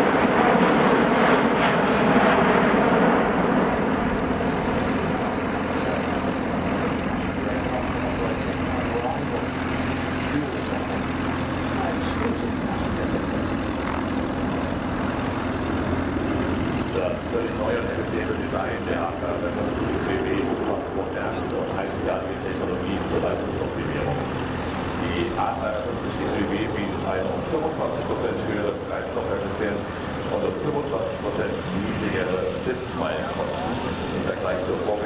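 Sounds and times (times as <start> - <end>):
jet engines roaring overhead: 0.0 - 35.0.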